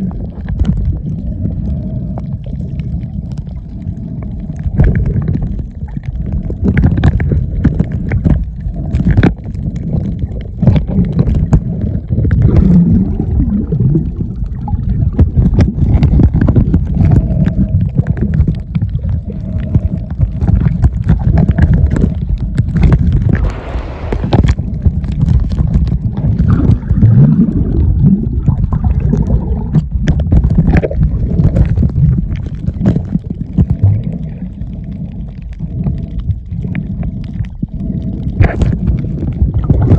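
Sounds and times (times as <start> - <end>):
underwater rumble of moving water: 0.0 - 39.9
sharp underwater clicks and knocks: 4.6 - 13.1, 14.0 - 39.9.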